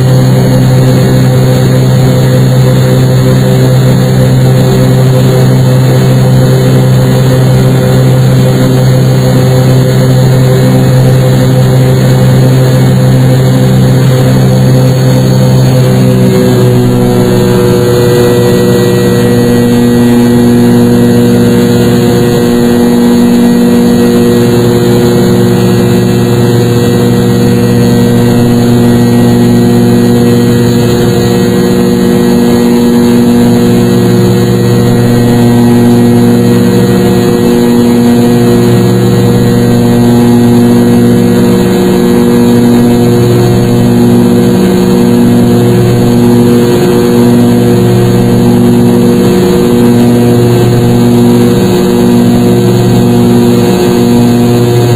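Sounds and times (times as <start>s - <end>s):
jet engines droning in cabin: 0.0s - 54.9s.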